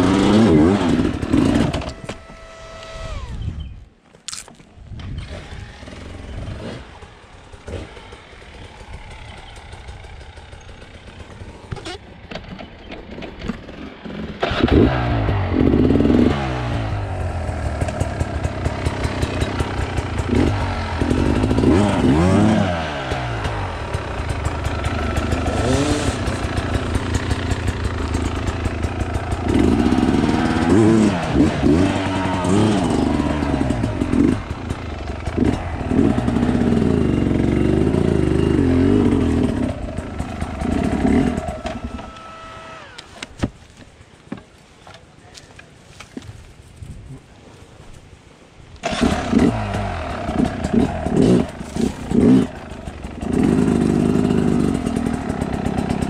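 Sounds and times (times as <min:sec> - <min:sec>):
motorcycle engine revving: 0:00.0 - 0:03.7, 0:04.9 - 0:43.2, 0:48.8 - 0:56.0.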